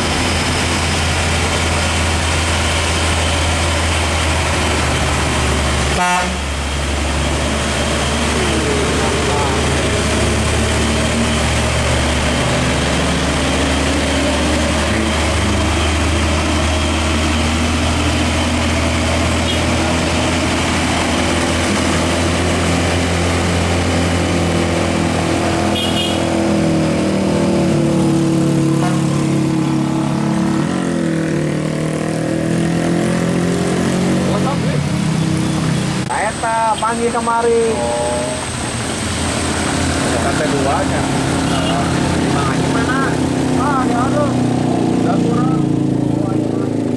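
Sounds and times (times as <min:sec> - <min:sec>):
diesel truck engine labouring: 0:00.0 - 0:46.9.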